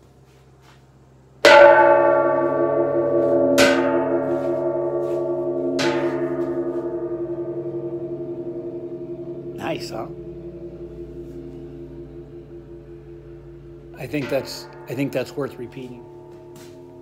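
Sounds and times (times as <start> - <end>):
metal gong ringing: 1.4 - 17.0.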